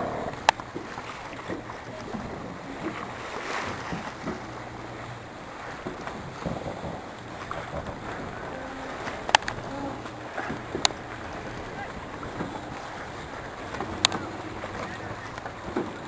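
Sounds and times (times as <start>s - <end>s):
water rushing past hull: 0.0s - 16.0s
wind on microphone: 0.0s - 16.0s.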